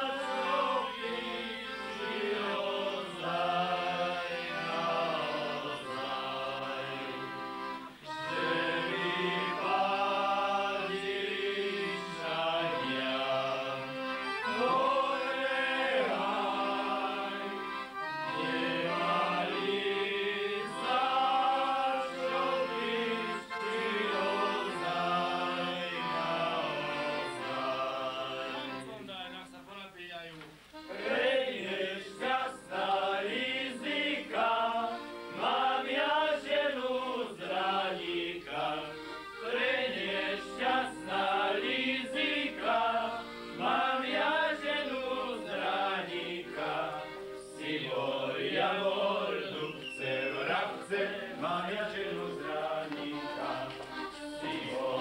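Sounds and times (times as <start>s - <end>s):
folk dance music with singing: 0.0s - 29.0s, 30.4s - 55.0s
group singing folk song: 0.0s - 29.0s, 30.7s - 55.0s.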